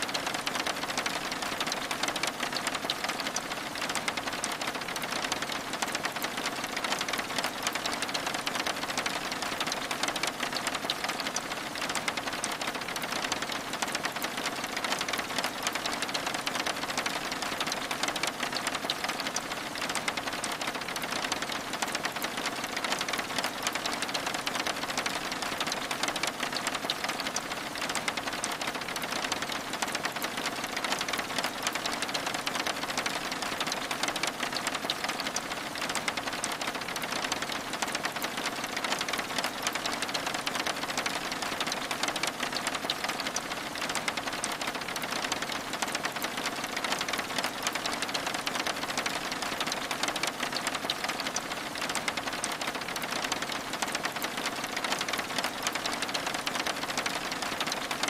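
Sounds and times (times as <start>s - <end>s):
rain patter on window glass: 0.0s - 58.0s.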